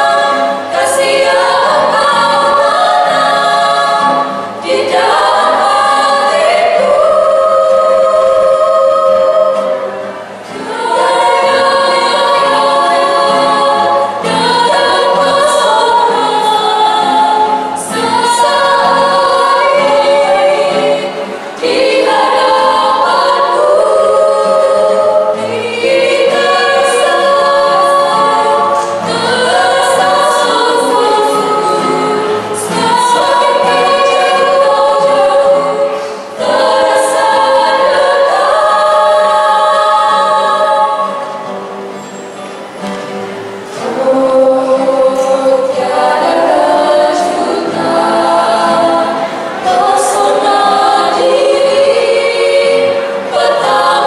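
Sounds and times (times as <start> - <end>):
women singing in harmony: 0.0 - 41.9, 43.7 - 54.0.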